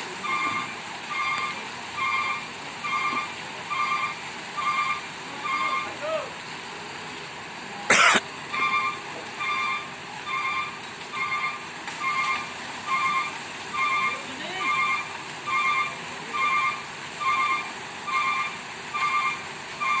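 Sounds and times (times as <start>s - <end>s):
reversing alarm beeping: 0.2s - 6.0s, 8.5s - 20.0s.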